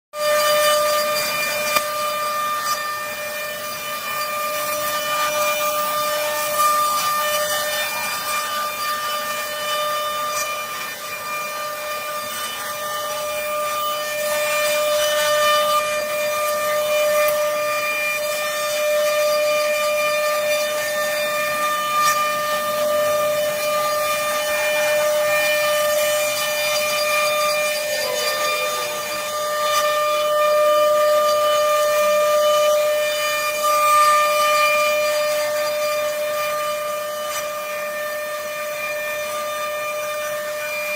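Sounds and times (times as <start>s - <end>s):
cutter hissing through wood: 0.2s - 40.9s
router spindle whine: 0.2s - 40.9s.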